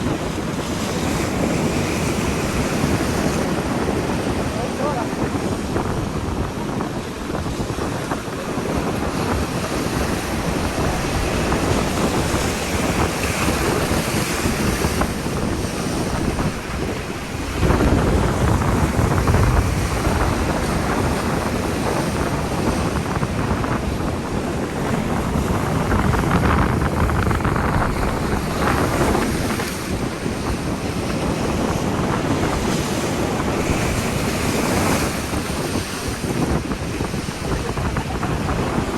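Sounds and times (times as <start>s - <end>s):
ocean waves breaking: 0.0s - 38.9s
wind buffeting microphone: 0.0s - 38.9s.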